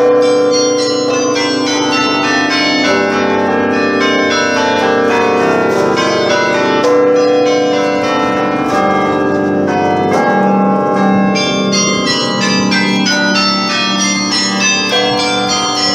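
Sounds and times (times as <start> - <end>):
carillon bells playing a tune: 0.0 - 15.9.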